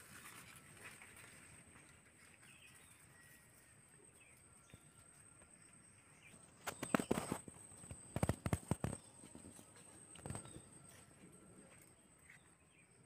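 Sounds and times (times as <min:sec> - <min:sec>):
bird chirps: 0:02.2 - 0:13.0.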